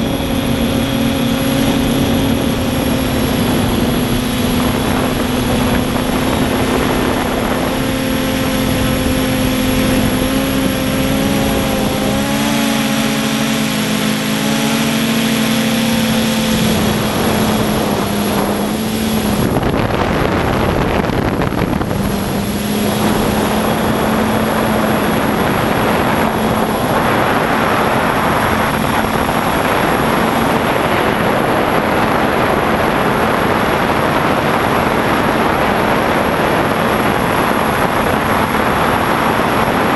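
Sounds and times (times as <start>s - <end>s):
quadcopter motors buzzing: 0.0s - 39.9s.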